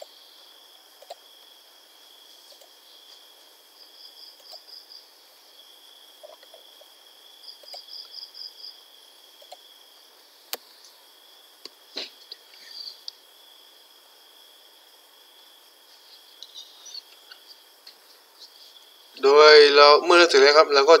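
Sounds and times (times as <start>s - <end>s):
insect pulsed chirps: 0.0s - 20.1s
insect high drone: 0.0s - 21.0s.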